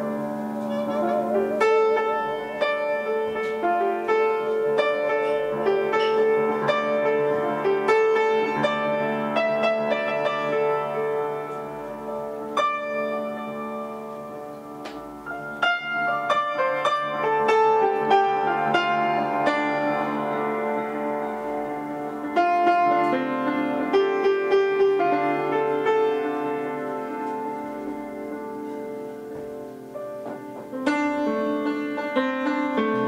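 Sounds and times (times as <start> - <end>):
bowed string instrument: 0.0 - 29.2
piano runs and chords: 0.0 - 33.0.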